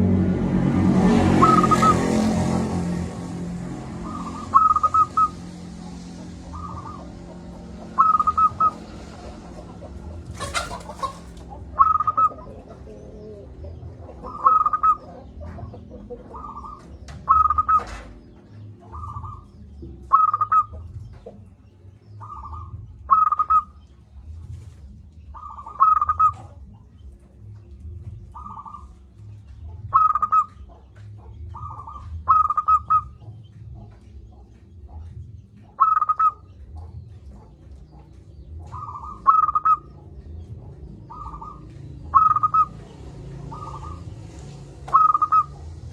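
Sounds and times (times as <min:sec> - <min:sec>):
dove cooing: 0:01.2 - 0:02.8, 0:04.0 - 0:21.4, 0:22.2 - 0:23.8, 0:24.6 - 0:26.8, 0:28.1 - 0:29.2, 0:29.8 - 0:45.9.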